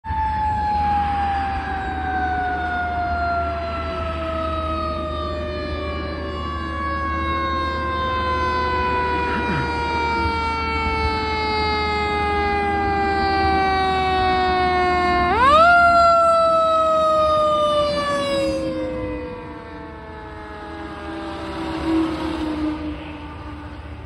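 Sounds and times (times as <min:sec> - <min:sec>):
wailing fire siren: 0:00.0 - 0:24.0
heavy truck engine rumbling: 0:00.2 - 0:24.0.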